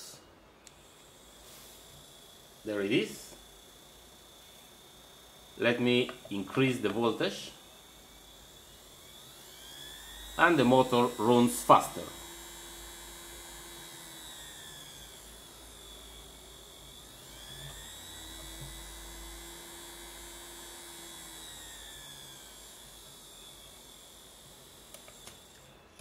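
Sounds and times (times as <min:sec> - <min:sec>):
electric motor whining: 0:00.7 - 0:26.0.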